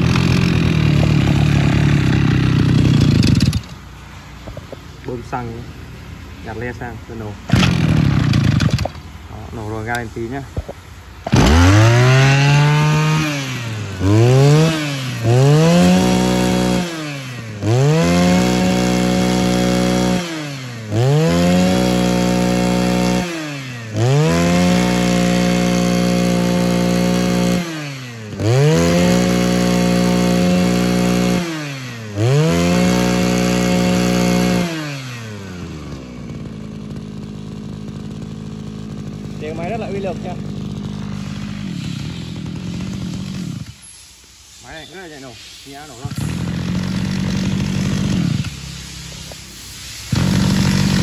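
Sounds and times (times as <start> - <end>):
brush cutter engine revving: 0.0 - 44.0, 44.6 - 51.0.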